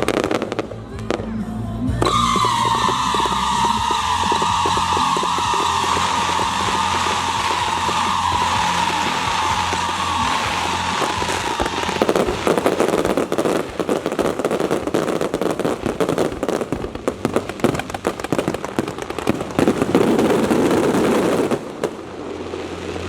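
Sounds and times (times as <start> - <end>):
firecrackers and fireworks banging: 0.0 - 1.4, 2.0 - 23.0.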